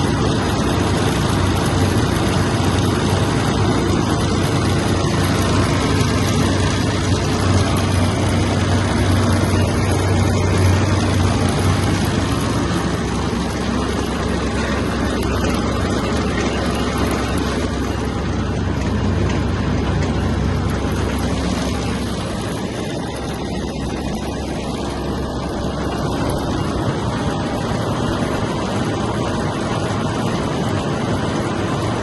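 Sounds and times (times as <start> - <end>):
round baler running: 0.0 - 32.0
tractor engine drone: 0.0 - 32.0.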